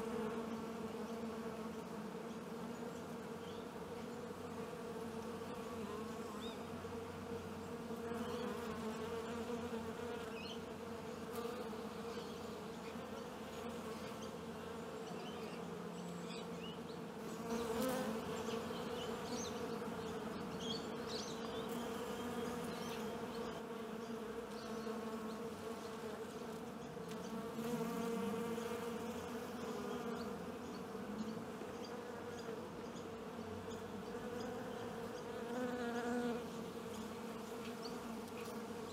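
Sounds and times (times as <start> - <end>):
honeybees buzzing: 0.0 - 38.9.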